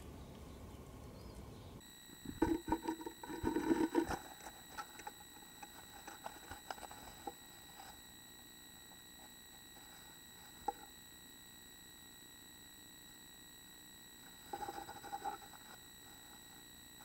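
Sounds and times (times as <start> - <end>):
camera electronic whine: 1.8 - 17.0.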